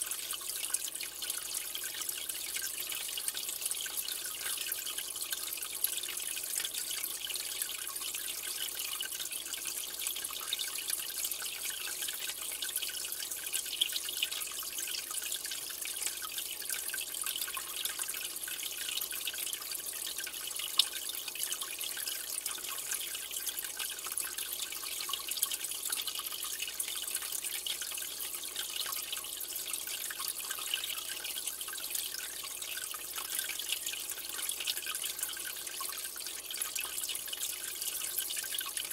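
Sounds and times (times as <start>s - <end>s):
aquarium water trickling: 0.0s - 38.9s
water drips and plinks: 0.0s - 38.9s.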